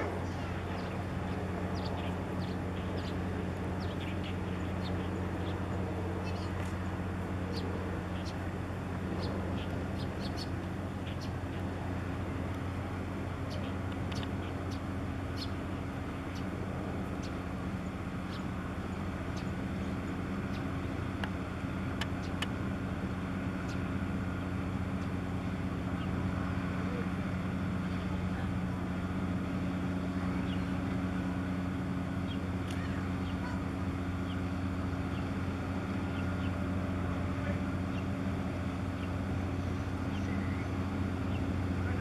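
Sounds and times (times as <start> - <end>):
diesel engine drone: 0.0 - 42.0.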